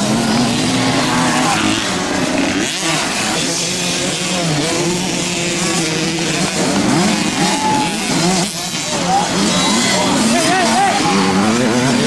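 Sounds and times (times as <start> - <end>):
two-stroke motocross bikes revving: 0.0 - 12.0.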